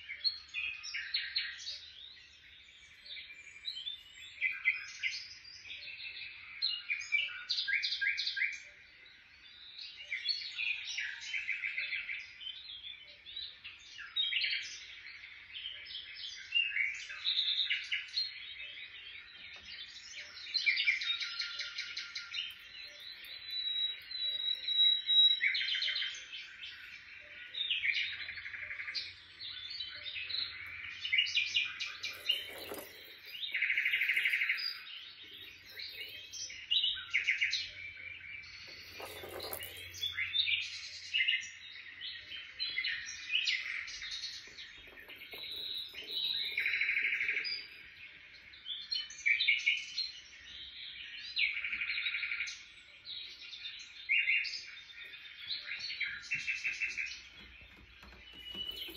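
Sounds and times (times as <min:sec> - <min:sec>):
birds chirping and trilling: 0:00.0 - 0:58.9.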